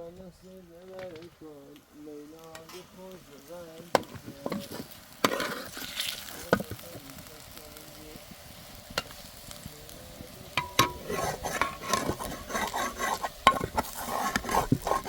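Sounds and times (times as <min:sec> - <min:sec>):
food sizzling: 0:00.0 - 0:15.0
utensil scraping food in a pan: 0:02.5 - 0:15.0.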